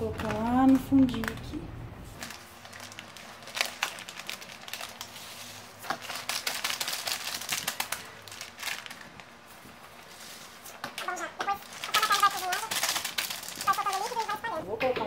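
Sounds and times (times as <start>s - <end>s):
plastic bag crinkling: 0.0s - 14.8s.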